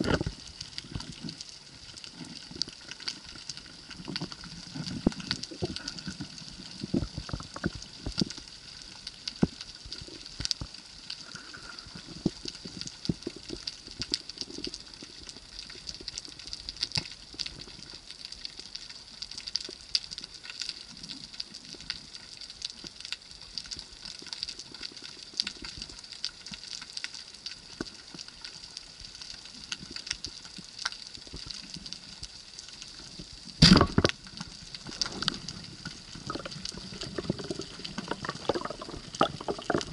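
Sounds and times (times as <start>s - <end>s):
sharp clicks and crackles: 0.0s - 39.9s
steady underwater hiss: 0.0s - 39.9s.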